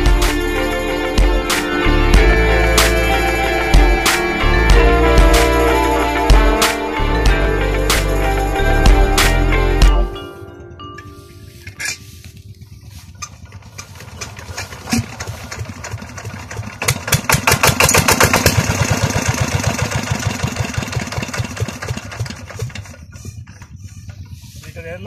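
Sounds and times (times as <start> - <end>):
diesel engine running: 0.0 - 10.2, 11.8 - 25.0.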